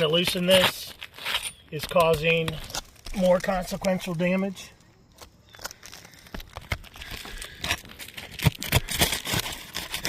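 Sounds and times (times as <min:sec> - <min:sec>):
shingles crackling and scraping: 0:00.0 - 0:10.0.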